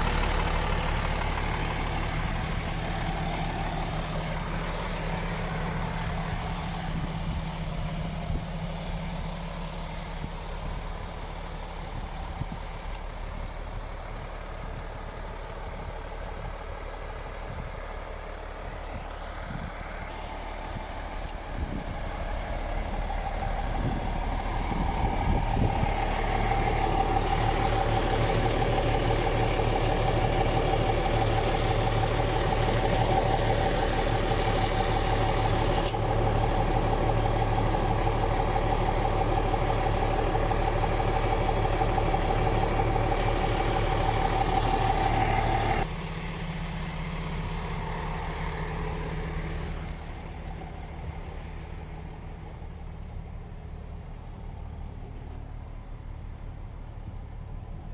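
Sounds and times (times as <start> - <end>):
truck diesel engine idling: 0.0 - 57.9.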